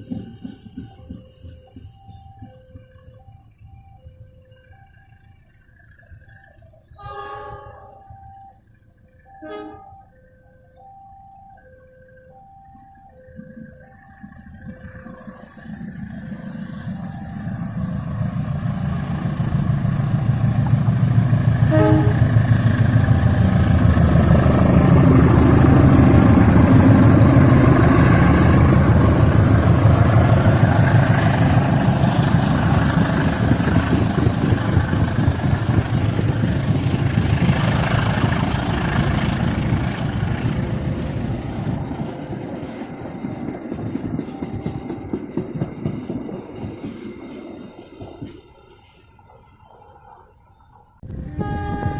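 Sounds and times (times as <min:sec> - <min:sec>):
diesel train passing: 0:00.0 - 0:51.9.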